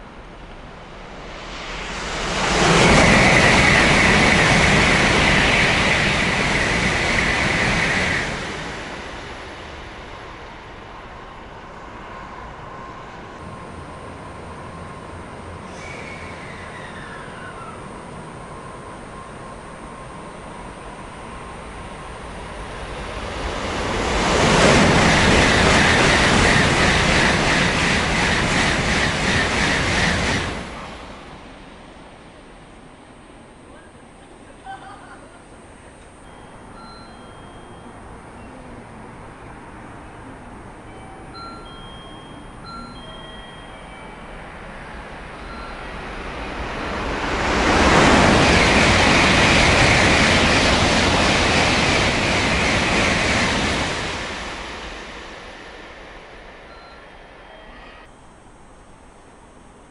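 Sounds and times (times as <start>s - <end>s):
faint train rumble: 0.0s - 59.9s
steady high whine: 0.0s - 59.9s
train rushing past: 0.0s - 59.9s.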